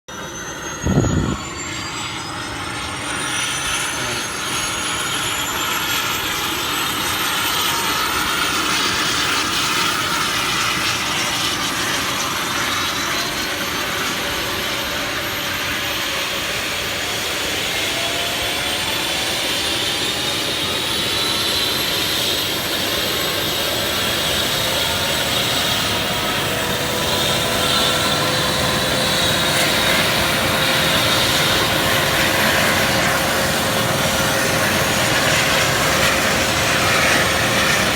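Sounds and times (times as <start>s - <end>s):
helicopter turbines spooling up: 0.1s - 37.9s.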